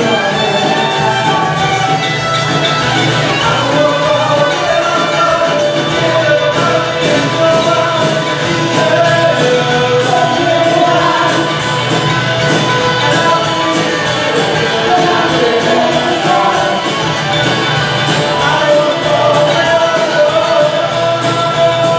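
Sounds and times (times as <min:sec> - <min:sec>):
drum kit beat: 0:00.0 - 0:21.9
rock guitars: 0:00.0 - 0:21.9
woman singing: 0:03.3 - 0:21.9.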